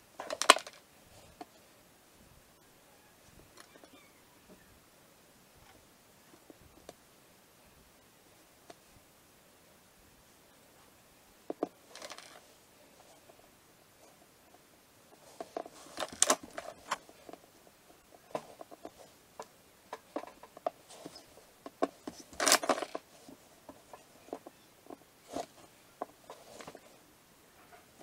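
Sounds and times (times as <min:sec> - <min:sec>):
rustling: 0:00.0 - 0:04.8, 0:10.0 - 0:28.0.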